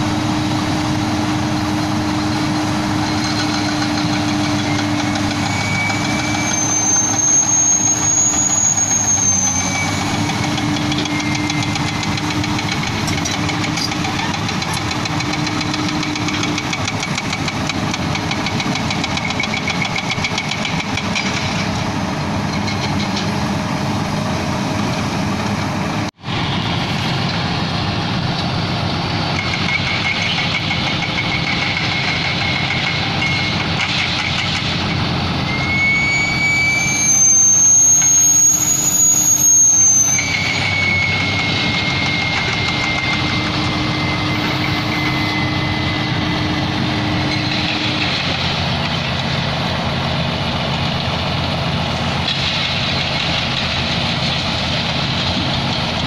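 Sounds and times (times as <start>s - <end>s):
hydraulic whine: 0.0s - 56.0s
truck diesel engine running: 0.0s - 56.0s.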